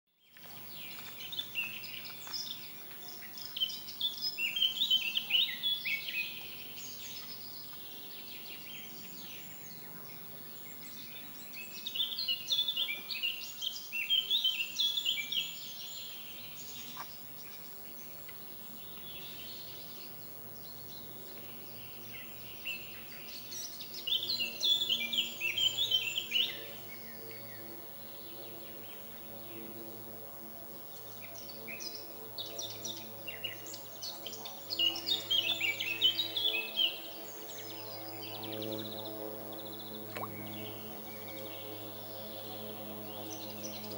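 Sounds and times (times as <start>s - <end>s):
songbird chirping: 0.1s - 27.7s, 32.4s - 43.9s
faint outdoor background: 0.1s - 43.9s.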